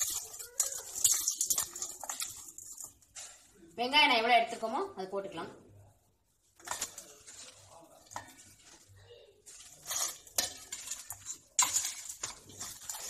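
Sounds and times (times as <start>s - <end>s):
food mixed in steel bowl: 0.0s - 4.8s, 6.2s - 13.0s.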